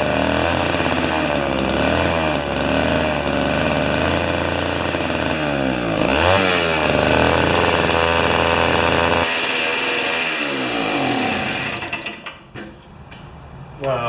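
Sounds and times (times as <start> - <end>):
two-stroke engine running hard: 0.0 - 12.0.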